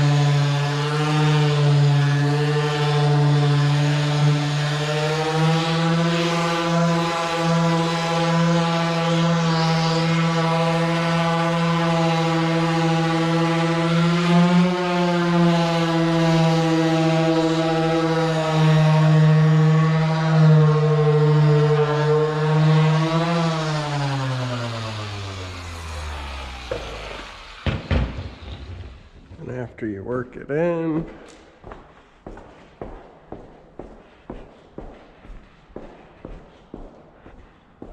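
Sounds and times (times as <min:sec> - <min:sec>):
orbital polisher humming: 0:00.0 - 0:29.4, 0:30.7 - 0:37.9.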